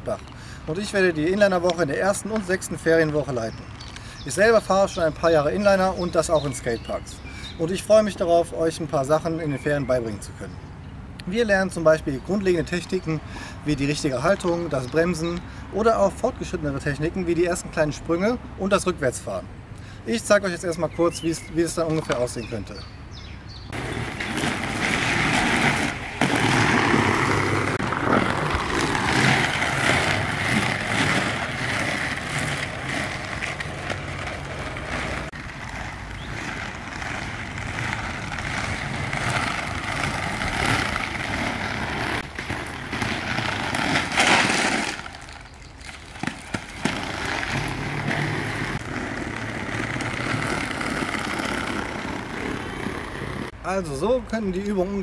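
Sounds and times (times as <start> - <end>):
inline skate wheels rolling on concrete: 0.0 - 55.0.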